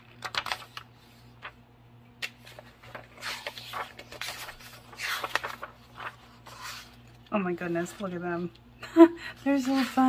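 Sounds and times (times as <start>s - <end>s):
paper pages rustling: 0.0s - 1.6s, 2.2s - 8.3s, 9.5s - 10.0s.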